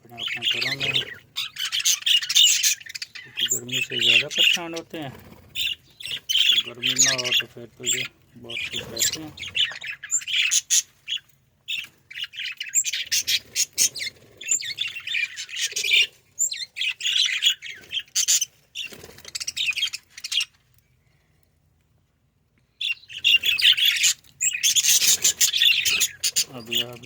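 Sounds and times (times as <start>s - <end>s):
budgerigars chirping and chattering: 0.0s - 20.8s, 22.8s - 27.0s.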